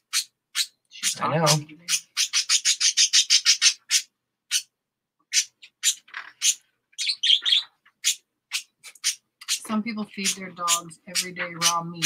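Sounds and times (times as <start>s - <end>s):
budgerigar chirping: 0.0s - 12.0s.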